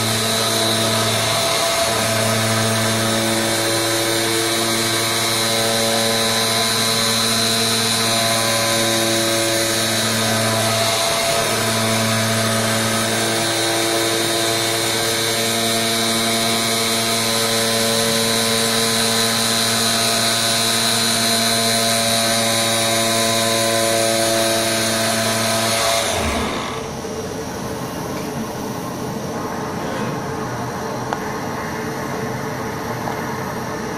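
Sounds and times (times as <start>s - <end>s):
cutting machine motor hum: 0.0s - 27.6s
high machine whine: 0.0s - 33.9s.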